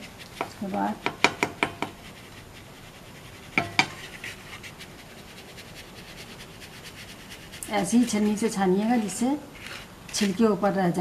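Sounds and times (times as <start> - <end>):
spice rustling in a sieve: 0.0 - 10.7.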